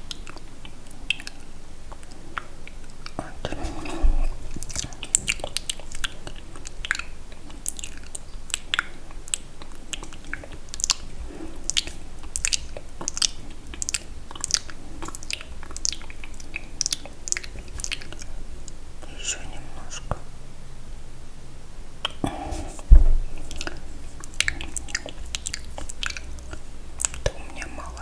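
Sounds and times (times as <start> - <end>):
wet mouth clicks and smacks: 0.0 - 19.4, 22.0 - 28.0.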